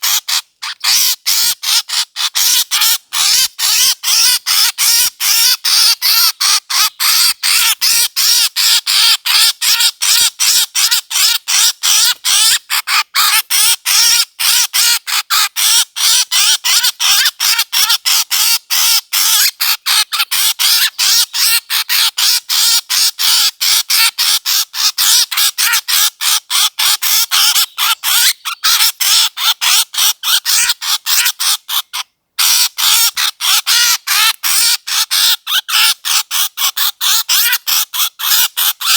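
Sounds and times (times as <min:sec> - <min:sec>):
bird harsh calls: 0:00.0 - 0:38.9.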